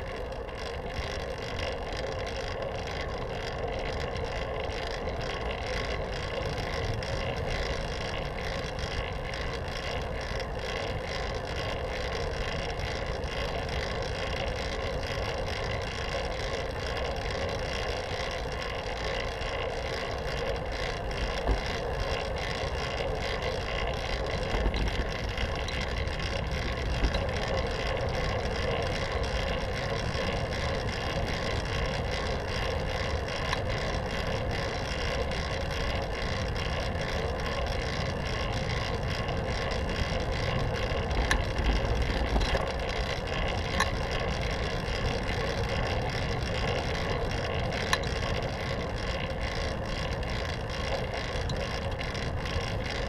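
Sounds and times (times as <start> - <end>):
bicycle drivetrain turning: 0.0 - 53.0
bicycle tyres humming on asphalt: 0.0 - 53.0.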